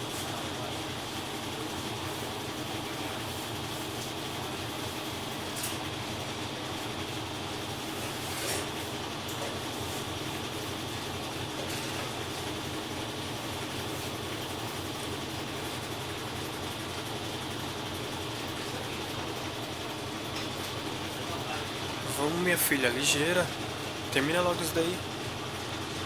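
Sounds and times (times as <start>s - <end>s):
washing machine spin cycle: 0.0s - 26.0s.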